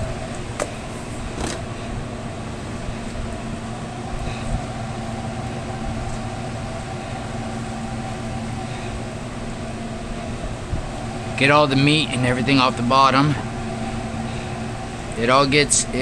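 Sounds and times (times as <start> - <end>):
fan rush: 0.0 - 16.0
kitchen machinery hum: 0.0 - 16.0.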